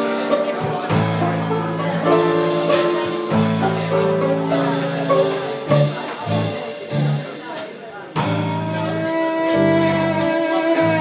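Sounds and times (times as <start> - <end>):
electric bass: 0.0 - 7.4, 8.2 - 11.0
drum kit: 0.0 - 11.0.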